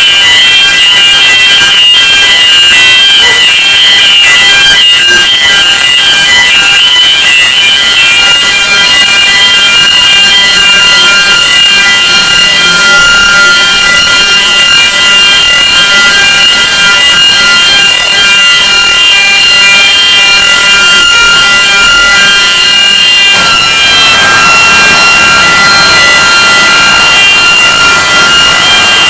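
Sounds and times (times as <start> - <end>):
fire alarm sounding: 0.0 - 29.0
machinery noise: 0.0 - 29.0.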